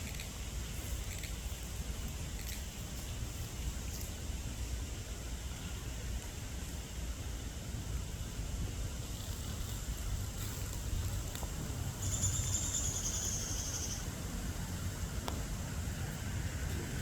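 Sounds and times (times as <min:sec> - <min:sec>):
wind rumble on microphone: 0:00.0 - 0:13.0, 0:13.9 - 0:17.0.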